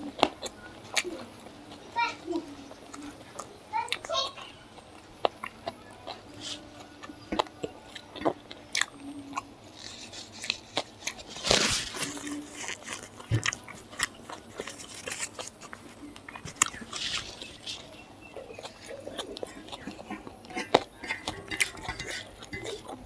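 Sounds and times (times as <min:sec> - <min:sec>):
crunchy chewing: 0:00.0 - 0:23.0.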